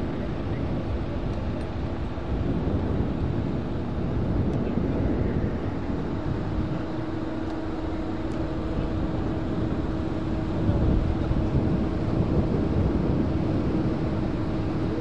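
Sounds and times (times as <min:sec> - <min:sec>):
turboprop aircraft engines droning: 0:00.0 - 0:15.0.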